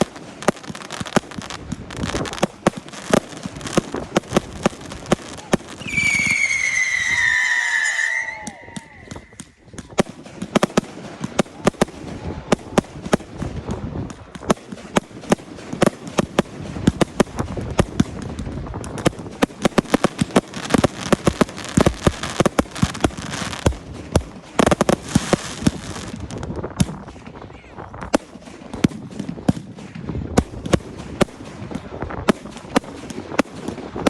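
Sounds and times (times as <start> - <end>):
fireworks bangs: 0.0 - 34.0
fireworks crackling: 0.0 - 34.0.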